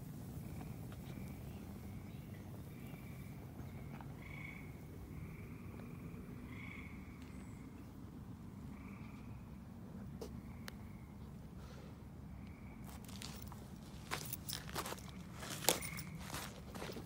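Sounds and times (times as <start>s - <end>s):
frogs trilling: 0.4s - 11.2s, 12.2s - 17.0s.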